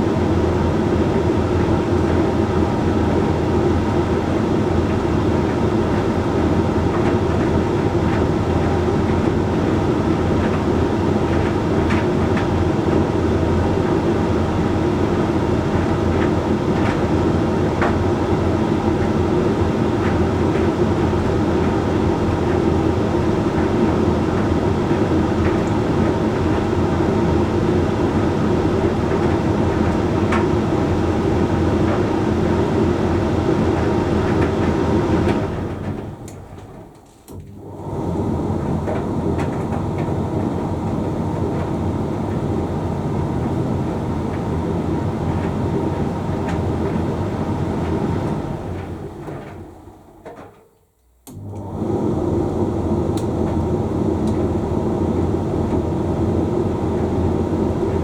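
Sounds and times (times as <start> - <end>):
tumble dryer motor hum: 0.0 - 50.6, 51.2 - 58.0.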